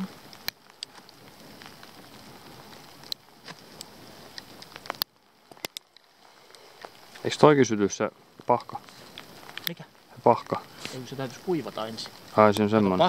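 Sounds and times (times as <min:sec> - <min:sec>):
bark crackling and snapping: 0:00.0 - 0:07.3, 0:08.3 - 0:13.0.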